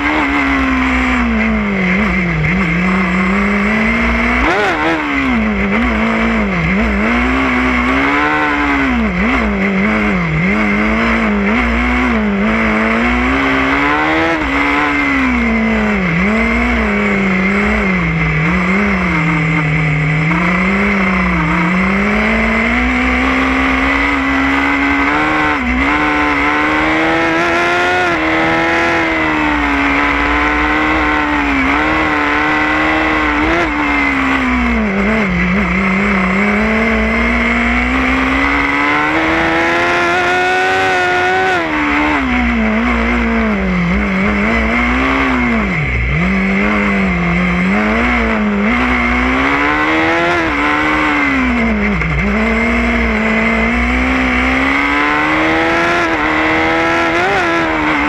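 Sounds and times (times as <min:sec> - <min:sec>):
race car engine revving: 0:00.0 - 0:58.0
steady high whine: 0:00.0 - 0:58.0.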